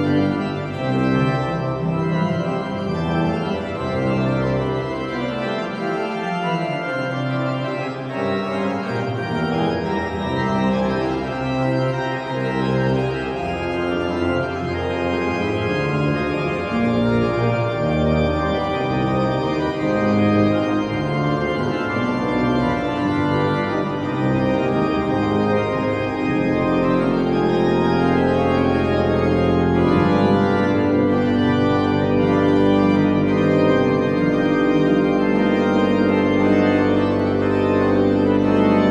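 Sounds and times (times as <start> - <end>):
deep held organ bass: 0.0 - 38.9
organ music: 0.0 - 38.9.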